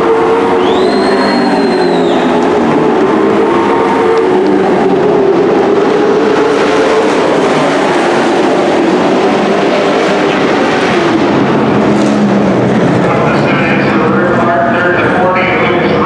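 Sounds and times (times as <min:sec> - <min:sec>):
race truck engines droning: 0:00.0 - 0:16.0.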